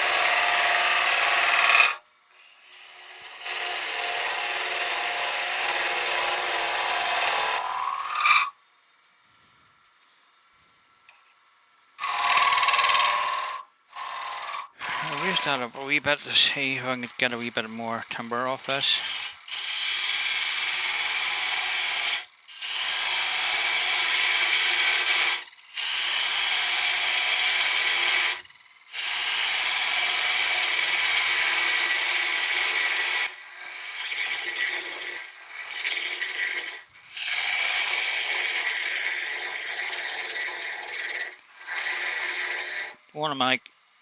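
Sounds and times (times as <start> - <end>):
lathe tool scraping wood: 0.0 - 8.5, 12.0 - 43.0.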